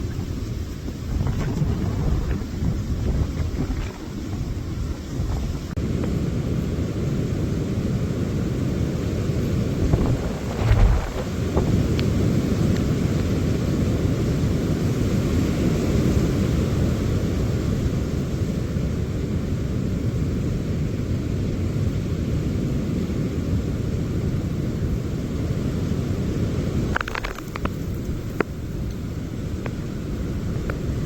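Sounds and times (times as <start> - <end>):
wind: 0.0 - 31.0.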